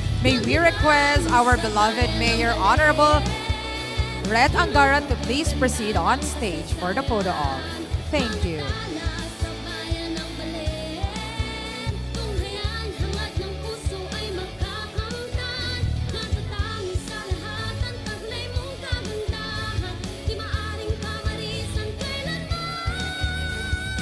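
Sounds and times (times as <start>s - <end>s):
person singing pop song: 0.0s - 24.0s
steady drum beat: 0.0s - 24.0s.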